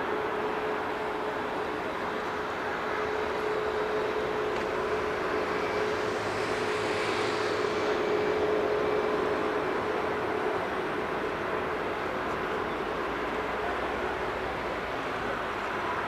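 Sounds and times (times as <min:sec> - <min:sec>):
jet engine hum-like tone: 0:00.0 - 0:16.0
jet engines rushing: 0:00.0 - 0:16.0.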